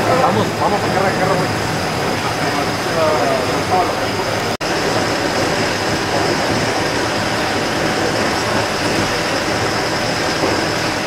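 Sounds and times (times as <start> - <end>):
coach engine idling: 0.0 - 11.0.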